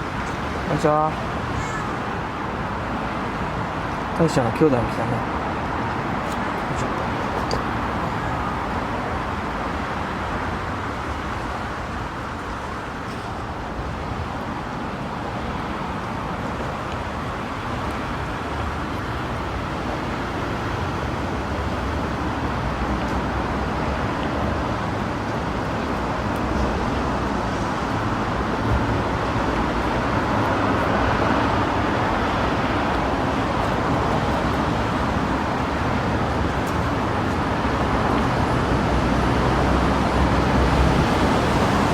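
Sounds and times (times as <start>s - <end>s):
road traffic noise: 0.0s - 41.9s.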